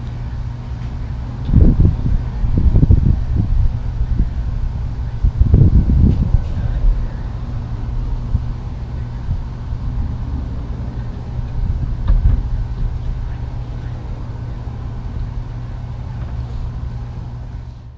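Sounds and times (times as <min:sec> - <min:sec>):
low fluctuating rumble: 0:00.0 - 0:17.9.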